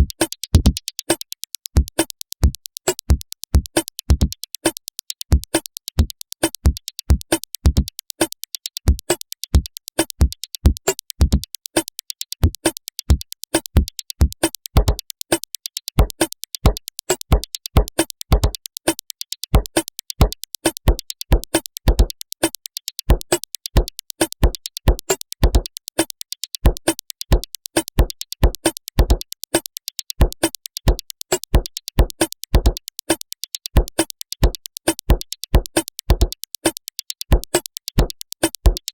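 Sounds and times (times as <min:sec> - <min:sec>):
electronic beat loop: 0:00.0 - 0:38.9.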